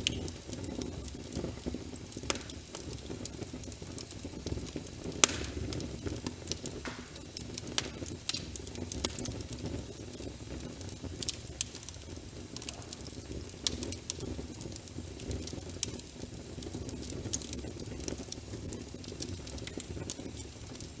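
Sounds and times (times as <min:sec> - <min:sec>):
rain pattering on a window: 0:00.0 - 0:21.0
wood fire crackling and popping: 0:00.0 - 0:21.0.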